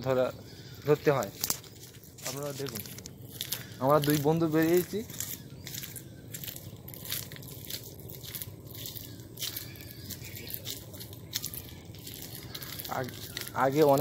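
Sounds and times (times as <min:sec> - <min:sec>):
crunching and crackling clicks: 0:00.8 - 0:14.0.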